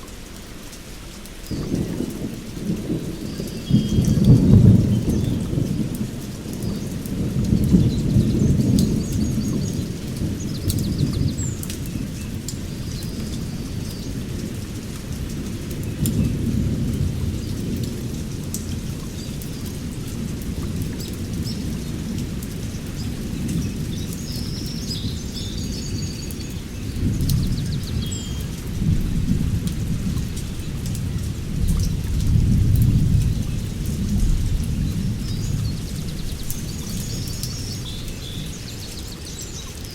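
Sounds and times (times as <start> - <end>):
heavy rain on forest canopy: 0.0 - 39.9.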